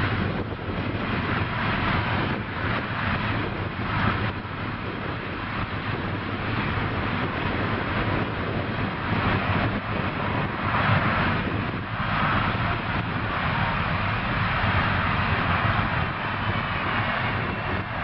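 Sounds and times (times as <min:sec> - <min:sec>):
jet engines running: 0:00.0 - 0:18.0
wind buffeting microphone: 0:00.0 - 0:18.0.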